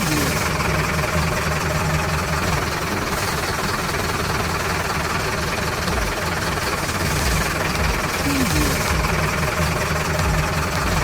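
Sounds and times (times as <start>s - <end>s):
cartoon truck engine running: 0.0s - 11.0s.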